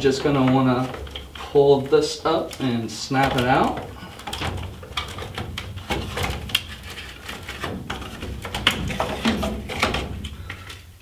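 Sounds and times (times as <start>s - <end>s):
plastic clicks and knocks: 0.0s - 10.9s.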